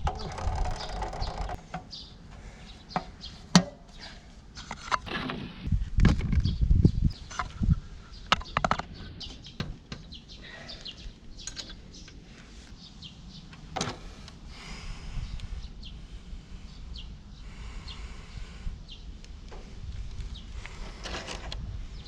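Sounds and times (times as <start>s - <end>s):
birds chirping: 0.0s - 4.4s, 6.4s - 22.0s.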